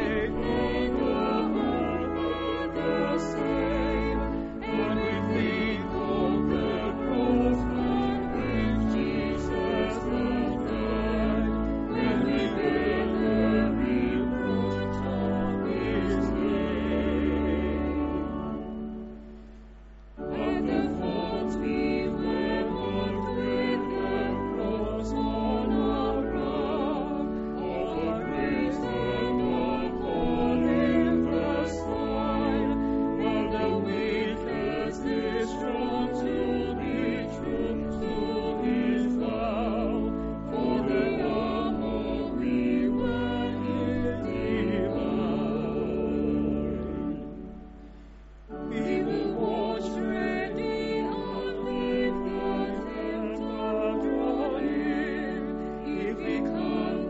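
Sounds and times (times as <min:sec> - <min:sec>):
choir singing a hymn: 0:00.0 - 0:19.3, 0:20.2 - 0:47.9, 0:48.5 - 0:57.0
church organ: 0:00.0 - 0:57.0.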